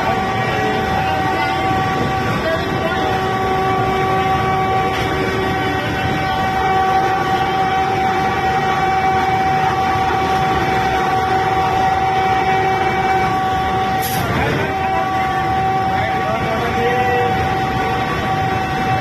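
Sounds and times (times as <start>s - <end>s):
train rumbling in cab: 0.0s - 19.0s.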